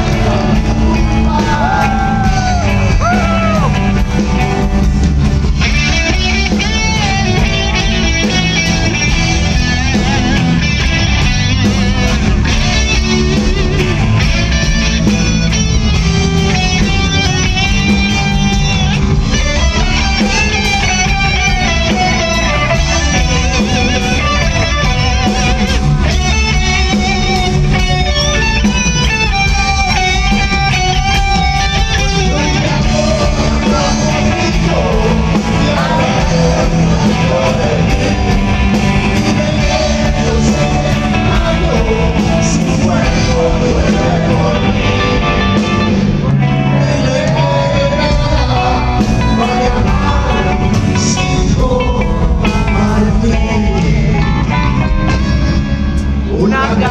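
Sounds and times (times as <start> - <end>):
lead guitar melody: 0.0 - 56.9
rock band playing: 0.0 - 56.9.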